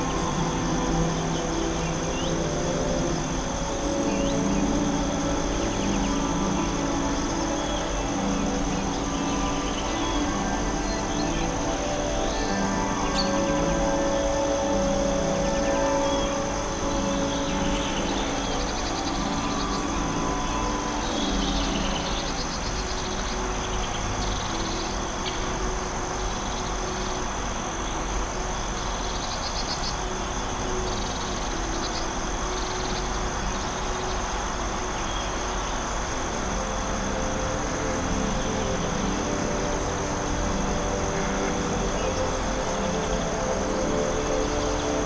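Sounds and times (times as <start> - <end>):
even hiss: 0.0 - 45.0
high insect trill: 0.0 - 45.0.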